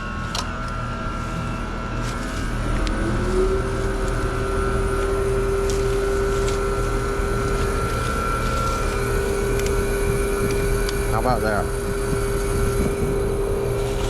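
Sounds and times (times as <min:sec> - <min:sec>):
air conditioner unit humming: 0:00.0 - 0:14.0.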